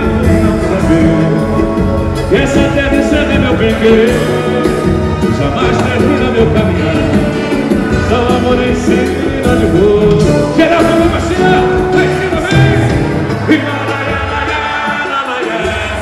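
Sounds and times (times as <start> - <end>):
man singing: 0.0 - 16.0
samba band playing: 0.0 - 16.0.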